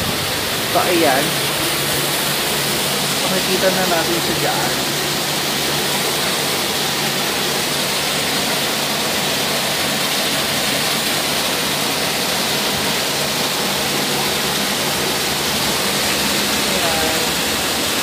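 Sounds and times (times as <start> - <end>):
water rushing down rocky cascade: 0.0 - 18.0.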